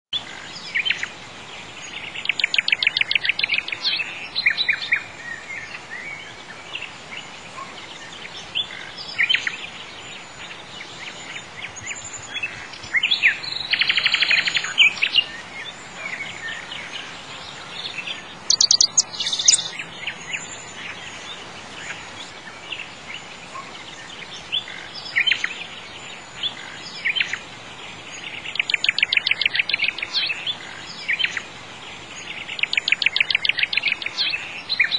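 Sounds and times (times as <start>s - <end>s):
birds trilling and chirping: 0.2s - 34.9s
steady faint hiss: 0.2s - 34.9s.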